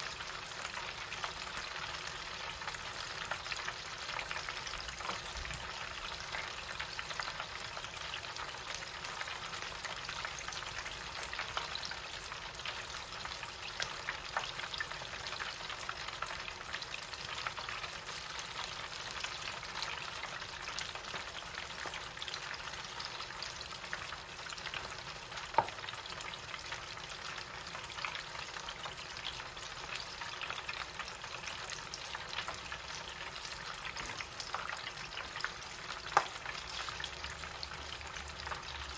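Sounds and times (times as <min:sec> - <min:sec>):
chicken deep-frying in oil: 0:00.0 - 0:38.9.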